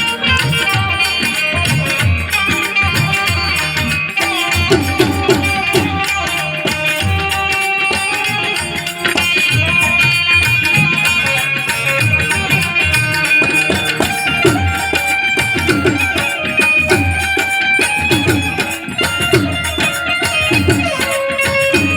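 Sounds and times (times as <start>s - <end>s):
hand drum beats: 0.0s - 21.9s
instrumental folk melody: 0.0s - 21.9s.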